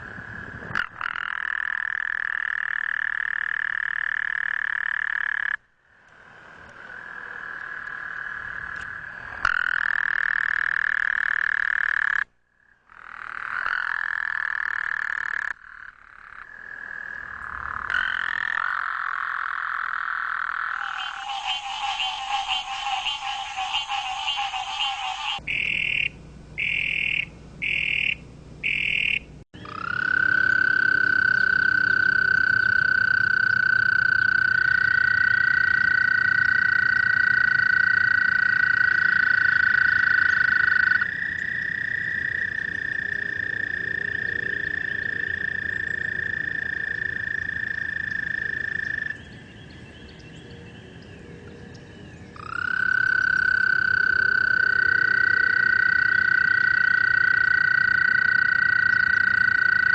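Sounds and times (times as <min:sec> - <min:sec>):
toads trilling: 0:00.7 - 0:05.6, 0:12.9 - 0:49.6, 0:52.4 - 0:59.9.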